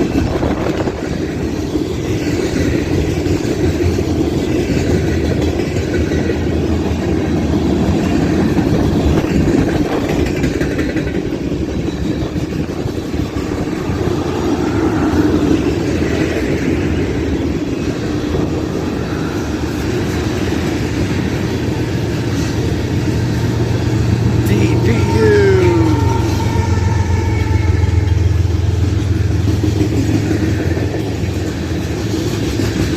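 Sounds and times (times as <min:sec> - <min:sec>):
freight train rolling past: 0:00.0 - 0:32.9.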